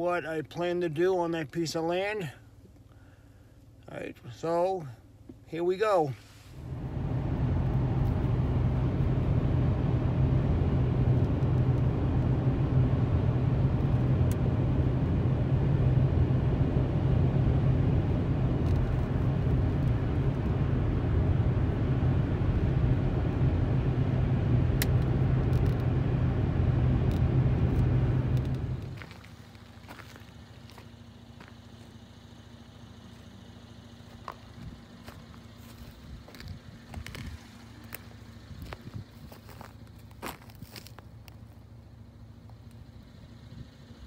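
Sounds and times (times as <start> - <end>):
car engine hum: 1.6 - 44.0
tyre and road noise: 6.4 - 33.3, 33.9 - 43.6.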